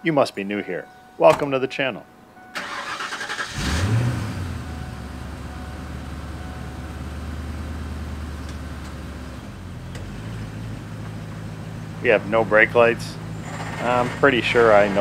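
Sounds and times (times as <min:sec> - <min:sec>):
car engine cranking and idling: 0:02.4 - 0:15.0.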